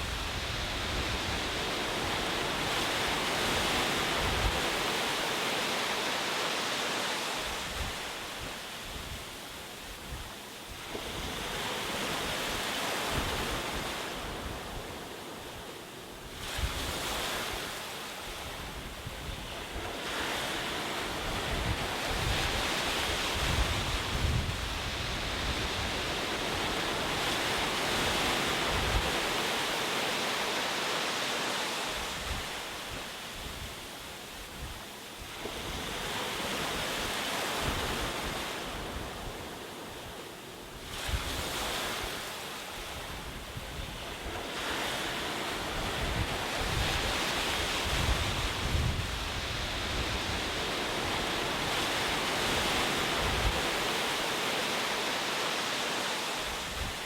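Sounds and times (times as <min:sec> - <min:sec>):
ocean waves breaking: 0:10.8 - 0:57.0.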